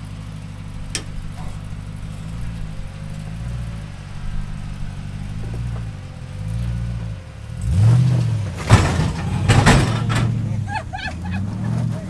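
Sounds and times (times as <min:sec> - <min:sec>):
off-road engine revving: 0:00.0 - 0:12.0.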